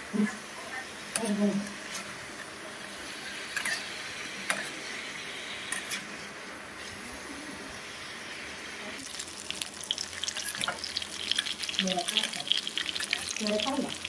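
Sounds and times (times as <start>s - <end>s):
pork sizzling in a pan: 0.7s - 14.0s.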